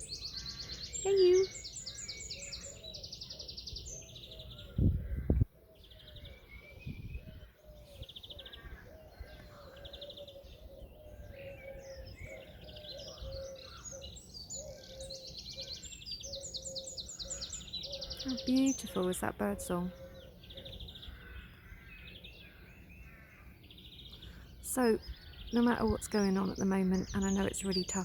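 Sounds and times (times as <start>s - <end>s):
birds singing with fast trills: 0.0s - 28.0s.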